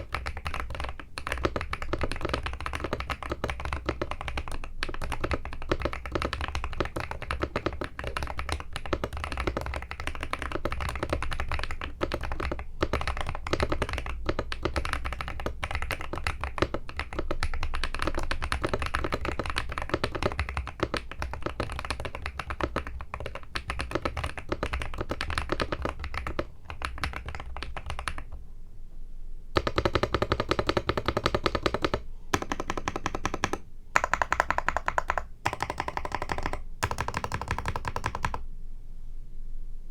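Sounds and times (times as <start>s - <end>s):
mechanical keyboard typing: 0.0s - 28.4s, 29.6s - 38.4s.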